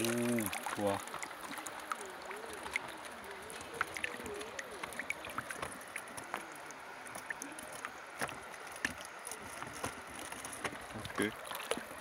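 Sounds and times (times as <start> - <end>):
water splashing and dripping: 0.0 - 12.0
water washing steadily: 0.0 - 12.0.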